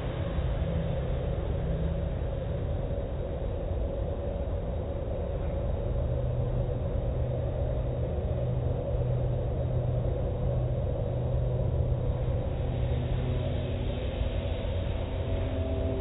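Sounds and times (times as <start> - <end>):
machinery rumble and hum: 0.0 - 16.0.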